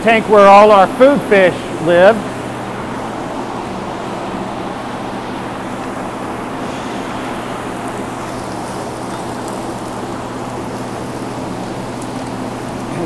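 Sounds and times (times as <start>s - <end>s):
pumps humming: 0.0s - 13.0s
water rushing: 0.0s - 13.0s.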